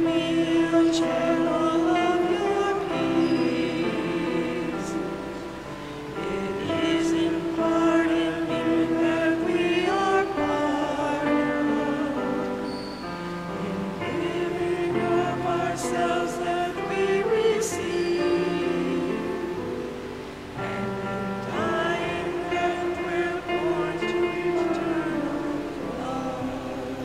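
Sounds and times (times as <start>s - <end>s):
voices singing a hymn: 0.0s - 27.0s.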